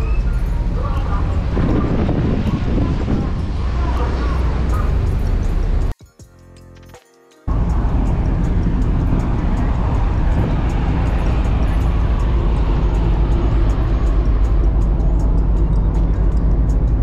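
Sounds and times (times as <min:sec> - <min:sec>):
low rumble of ship machinery: 0:00.0 - 0:05.9, 0:07.5 - 0:17.0
wind roaring: 0:00.0 - 0:06.0, 0:07.5 - 0:17.0.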